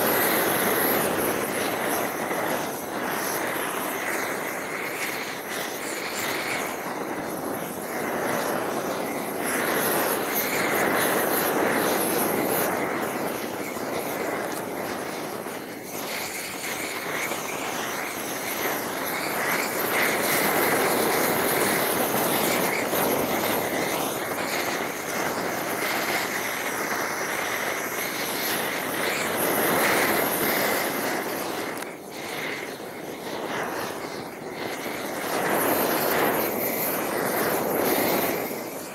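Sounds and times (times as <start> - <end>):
gas torch rushing: 0.0 - 38.9.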